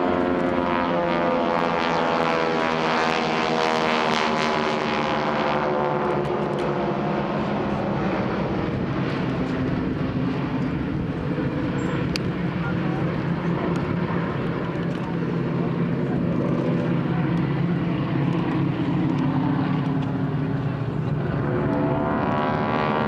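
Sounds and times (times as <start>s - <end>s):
propeller planes droning: 0.0s - 23.0s.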